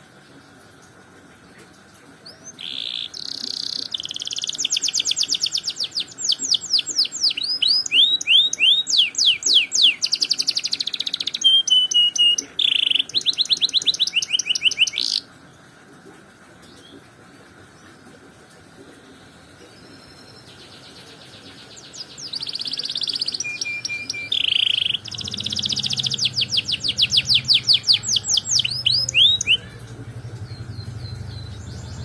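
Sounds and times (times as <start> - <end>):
canary singing trills: 2.2 - 15.3, 19.4 - 32.0.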